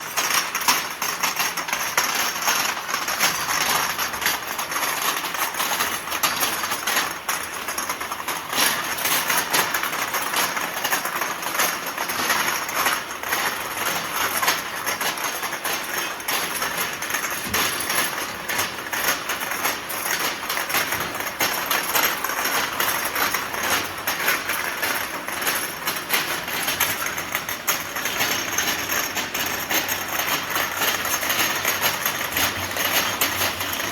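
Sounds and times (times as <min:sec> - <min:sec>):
bottle washing machine running: 0:00.0 - 0:33.9.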